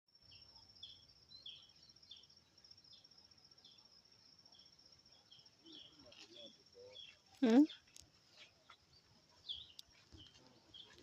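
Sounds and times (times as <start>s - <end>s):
short insect chirps: 0.1s - 10.9s
faint insect trill: 0.1s - 11.0s.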